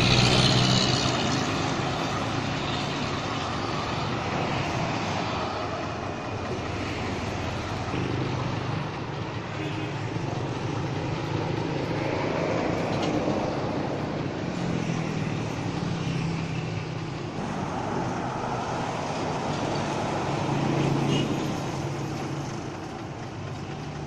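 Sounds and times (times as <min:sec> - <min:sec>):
heavy vehicle engines rumbling: 0:00.0 - 0:24.0
road traffic noise: 0:00.0 - 0:24.0.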